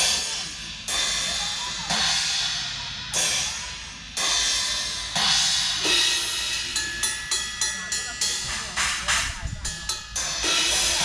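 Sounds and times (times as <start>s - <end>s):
crash cymbals struck: 0.0s - 11.0s.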